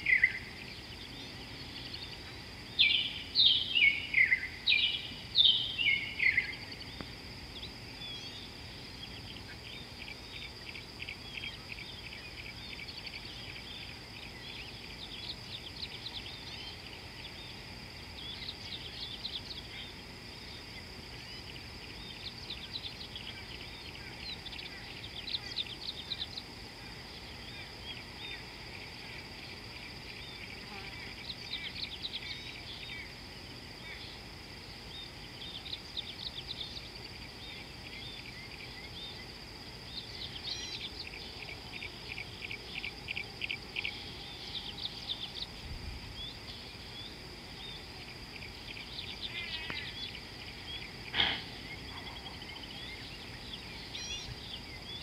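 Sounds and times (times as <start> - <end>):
birds chirping: 0.0 - 55.0
high-pitched insect trill: 0.0 - 55.0
low background noise: 0.0 - 55.0.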